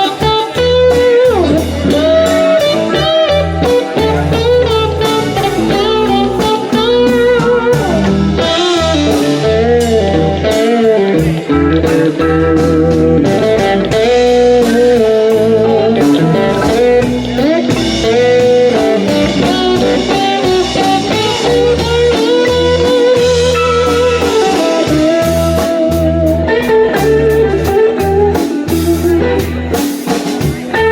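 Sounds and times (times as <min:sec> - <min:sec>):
bass and drums: 0:00.0 - 0:30.9
lead guitar solo: 0:00.0 - 0:30.9.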